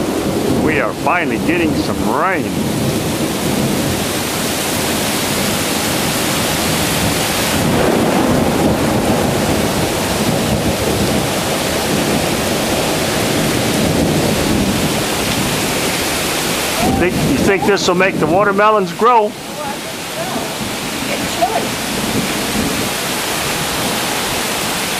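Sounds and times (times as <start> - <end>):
heavy rain hissing: 0.0 - 24.9.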